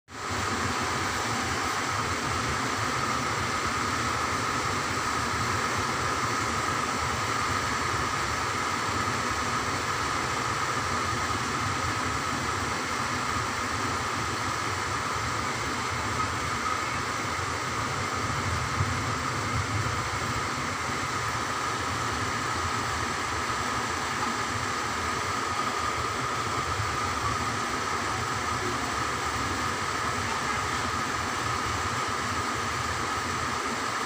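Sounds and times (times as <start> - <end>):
constant mid-pitched tone: 0.1 - 34.0
mechanical hum and hiss: 0.1 - 34.0.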